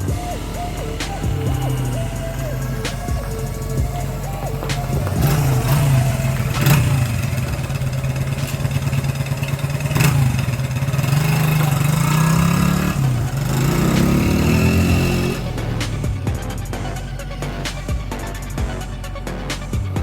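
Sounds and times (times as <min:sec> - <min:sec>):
motorcycle engine under load: 0:00.0 - 0:20.0.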